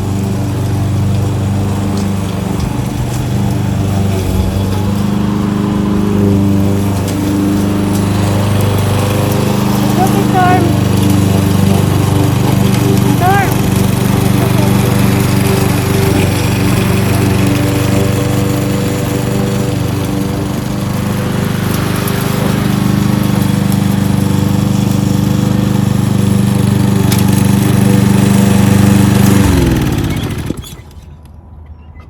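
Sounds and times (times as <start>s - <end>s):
lawnmower engine running: 0.0s - 31.4s.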